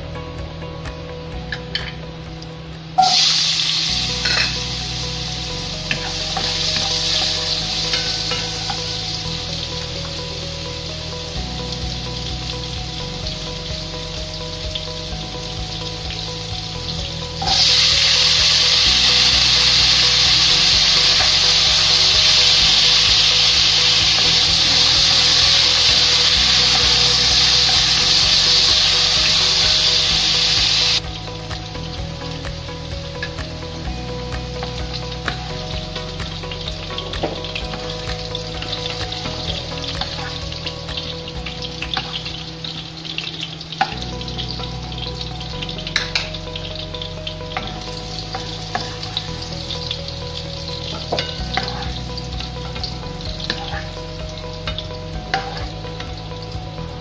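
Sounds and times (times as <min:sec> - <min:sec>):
vegetables sizzling in oil: 0:02.9 - 0:57.0.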